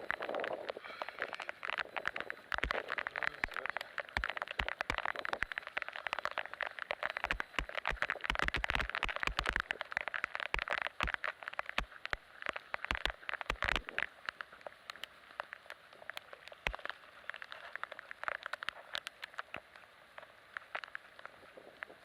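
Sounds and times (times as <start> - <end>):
drops ticking: 0.0 - 21.3
heavy rain hiss: 0.0 - 22.0.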